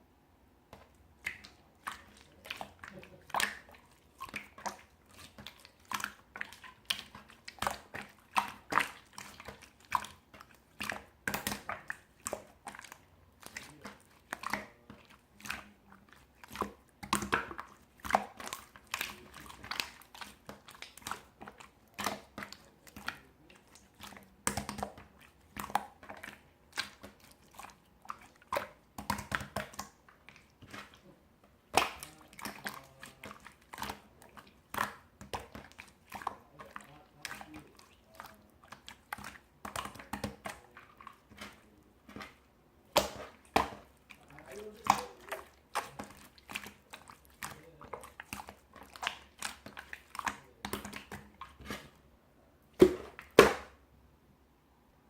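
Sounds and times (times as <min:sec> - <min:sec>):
slime squishing with sticky pops: 0:00.7 - 0:52.0.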